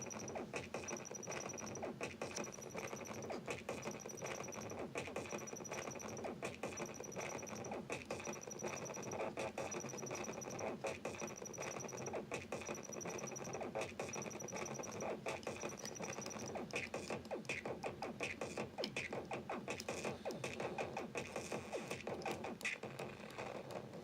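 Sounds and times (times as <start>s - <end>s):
drum machine beat loop: 0.0s - 24.0s.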